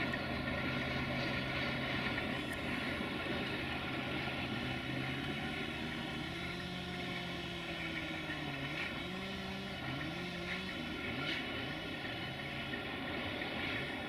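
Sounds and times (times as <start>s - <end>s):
locomotive diesel engine running: 0.0s - 14.0s.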